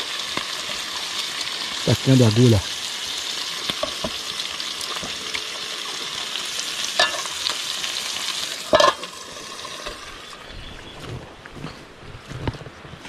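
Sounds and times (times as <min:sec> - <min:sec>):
meat sizzling: 0:00.0 - 0:10.5.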